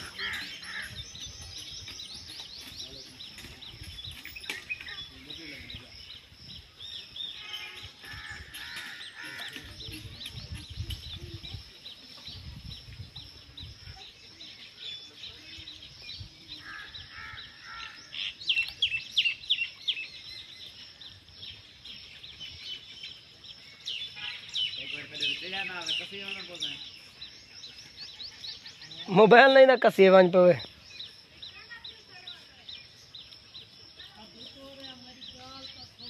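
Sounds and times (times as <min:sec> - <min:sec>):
birds chirping and calling: 0:00.0 - 0:36.0.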